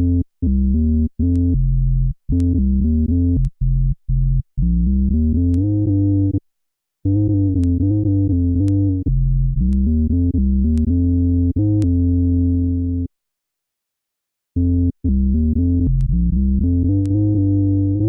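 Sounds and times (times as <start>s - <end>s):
synth bass line: 0.0s - 6.4s, 7.1s - 13.1s, 14.6s - 18.0s.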